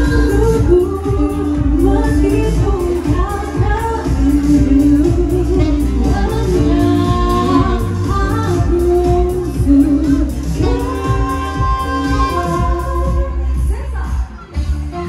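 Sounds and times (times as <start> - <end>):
amplified backing music: 0.0 - 15.0
woman singing into a microphone: 0.0 - 15.0.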